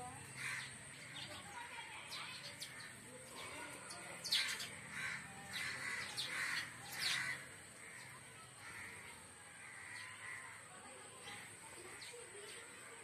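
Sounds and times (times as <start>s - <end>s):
birds harsh chirps: 0.0s - 13.0s.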